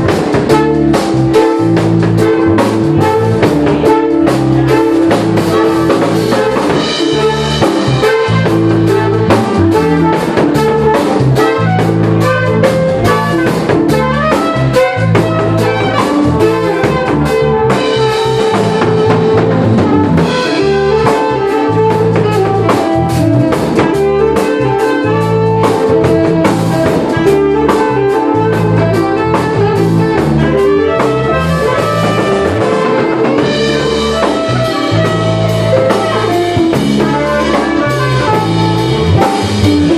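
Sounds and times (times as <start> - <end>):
jazz fusion band playing: 0.0 - 39.9.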